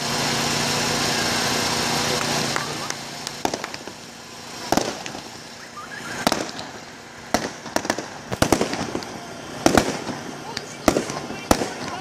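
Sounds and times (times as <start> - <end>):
fireworks shells bursting: 0.0 - 12.0.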